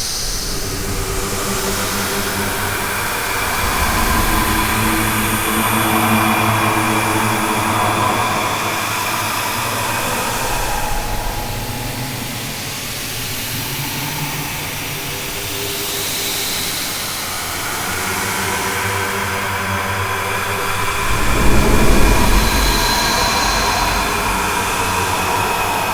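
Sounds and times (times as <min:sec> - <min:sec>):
hissing airy wash: 0:00.0 - 0:14.8, 0:17.9 - 0:25.9
droning low hum: 0:00.0 - 0:15.1, 0:19.1 - 0:25.9.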